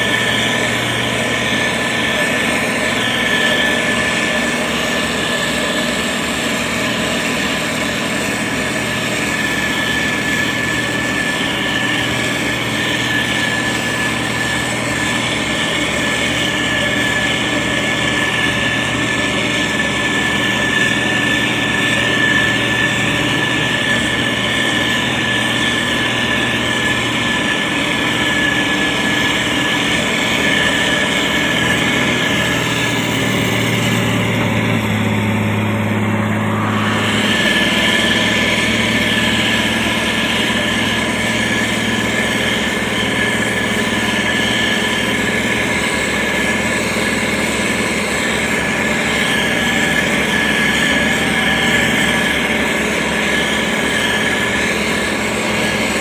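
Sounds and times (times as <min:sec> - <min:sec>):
grader diesel engine running: 0:00.0 - 0:56.0.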